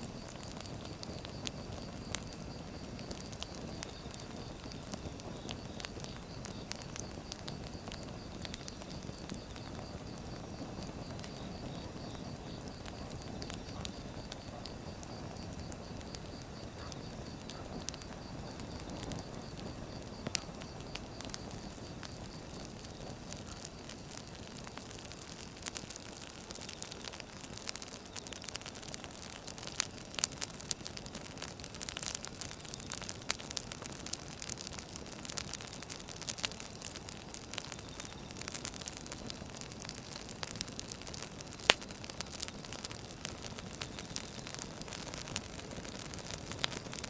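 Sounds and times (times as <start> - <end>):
firewood crackles and pops: 0.0 - 47.0
flames rushing: 0.0 - 47.0.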